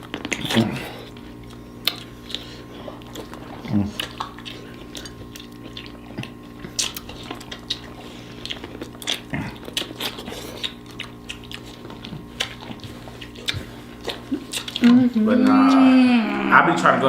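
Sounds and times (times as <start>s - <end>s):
chewing and biting: 0.0s - 15.8s.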